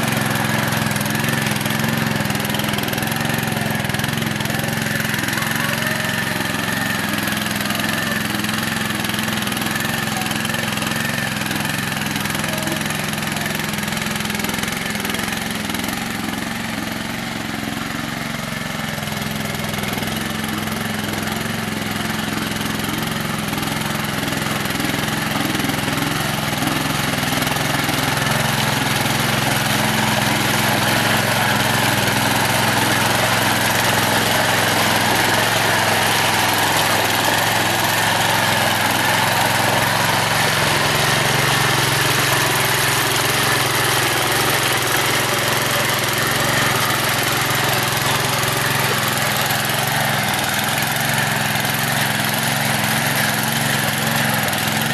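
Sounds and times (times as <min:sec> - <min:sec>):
small petrol engine running: 0:00.0 - 0:54.9.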